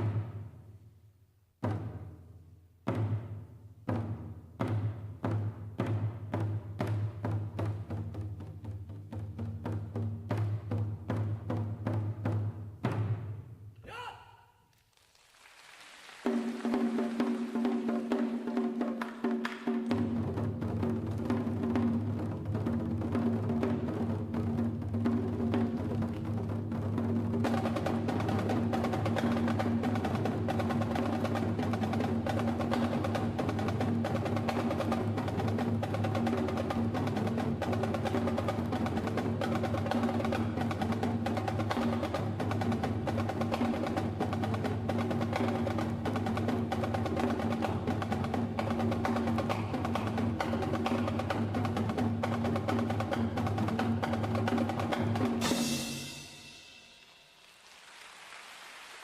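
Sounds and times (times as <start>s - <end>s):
drums and percussion beat: 0.0s - 0.7s, 1.5s - 14.4s, 15.1s - 58.0s.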